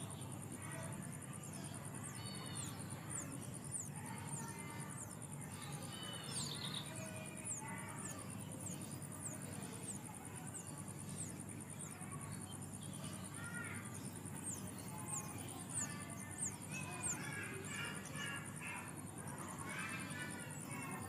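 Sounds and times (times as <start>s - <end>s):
bird calls: 0.0s - 21.0s
insect high trill: 0.0s - 21.0s.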